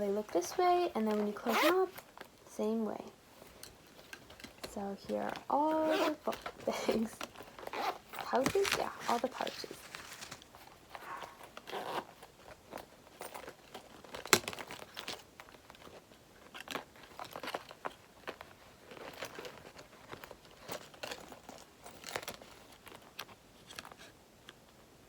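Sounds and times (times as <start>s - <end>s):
pouches rustling and crinkling: 0.0s - 24.7s.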